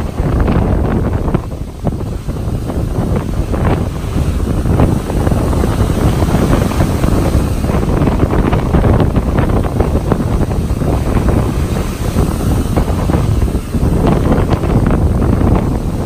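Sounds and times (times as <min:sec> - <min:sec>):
surf crashing on beach: 0:00.0 - 0:16.0
wind buffeting microphone: 0:00.0 - 0:16.0.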